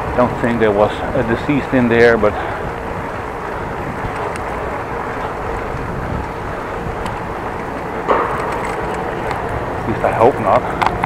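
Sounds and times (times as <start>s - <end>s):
wind rushing: 0.0s - 10.7s
bicycle rolling noise: 0.0s - 11.0s.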